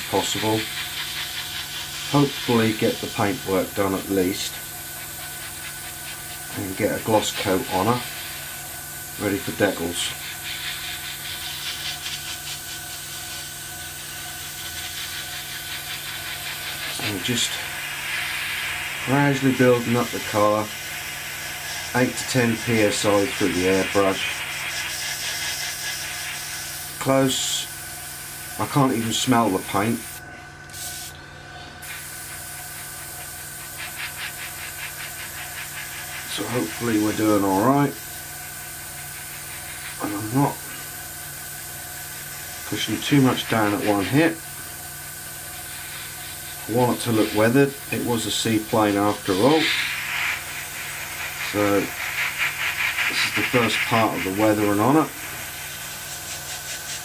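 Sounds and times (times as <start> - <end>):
airbrush hissing: 0.0 - 57.0
steady hum: 0.0 - 57.0.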